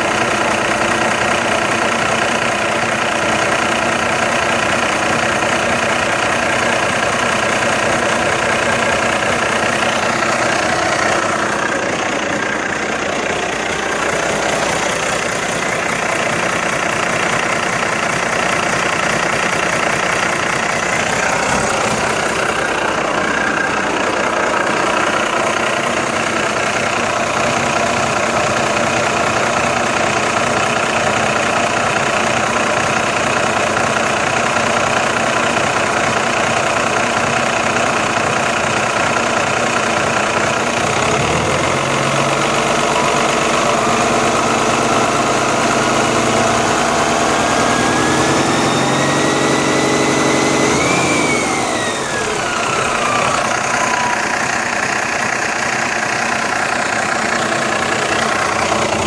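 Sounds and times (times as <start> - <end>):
diesel truck engine idling and revving: 0.0 - 59.0.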